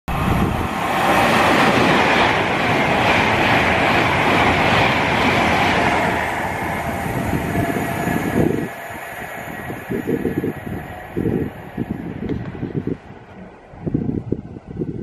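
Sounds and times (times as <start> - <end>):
passenger train passing at speed: 0.1 - 15.0.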